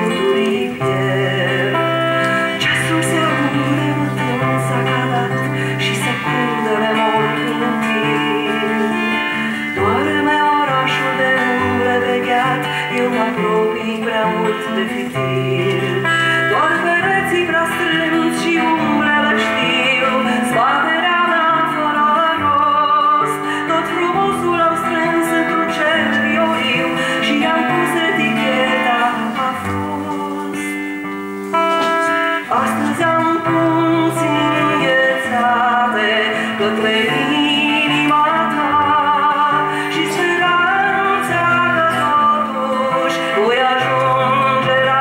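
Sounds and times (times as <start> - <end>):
acoustic guitar: 0.0 - 45.0
woman singing: 0.0 - 45.0.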